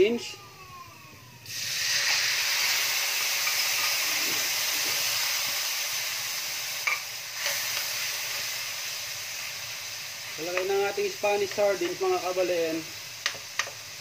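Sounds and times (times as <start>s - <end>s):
fish sizzling in hot oil: 1.5s - 14.0s.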